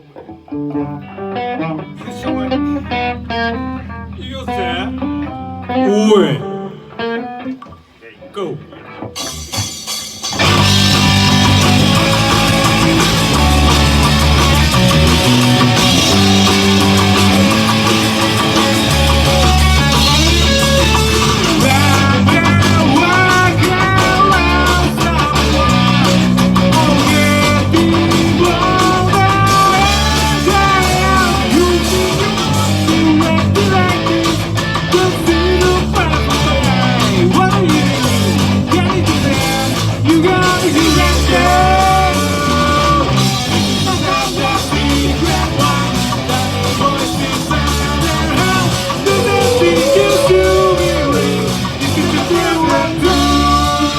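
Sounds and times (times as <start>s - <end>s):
rock music with guitars: 0.0s - 53.9s.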